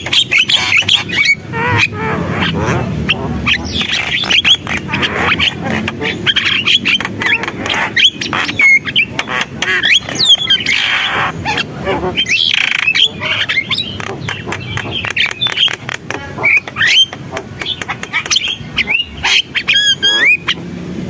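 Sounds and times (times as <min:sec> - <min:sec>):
bird chattering song: 0:00.0 - 0:20.8
harsh rasping bird calls: 0:00.0 - 0:21.0.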